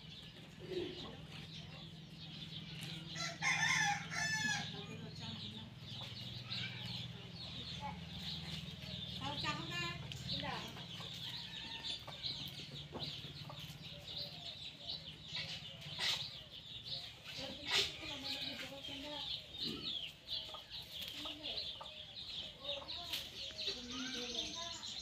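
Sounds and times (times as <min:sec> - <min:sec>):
chickens clucking: 0:00.0 - 0:25.0
small birds chirping: 0:00.0 - 0:25.0.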